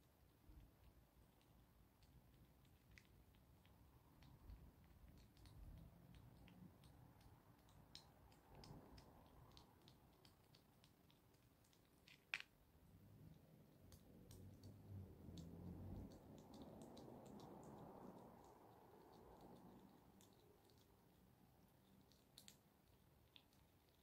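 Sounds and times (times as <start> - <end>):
hedgehog chewing clicks and smacks: 0.0 - 24.0.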